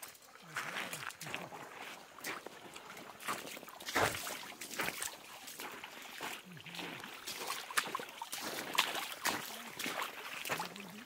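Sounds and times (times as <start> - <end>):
footsteps splashing through stream: 0.0 - 11.0
trickle of running water: 0.0 - 11.0.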